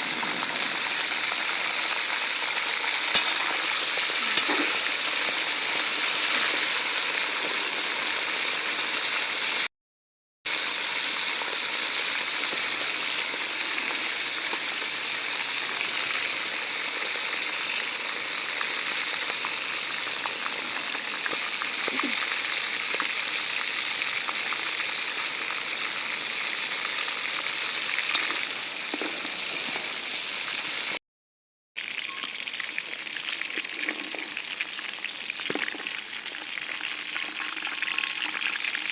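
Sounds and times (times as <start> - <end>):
food deep-frying in hot oil: 0.0 - 9.7, 10.5 - 31.0, 31.8 - 38.9.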